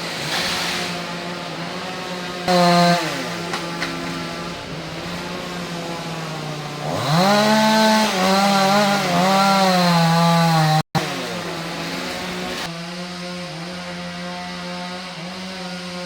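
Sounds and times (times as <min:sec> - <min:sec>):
chainsaw idling and revving: 0:00.0 - 0:16.0.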